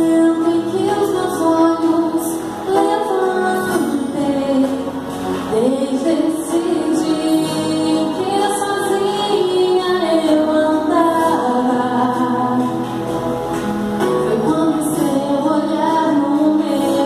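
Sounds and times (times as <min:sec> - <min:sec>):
woman singing amplified: 0:00.0 - 0:17.0.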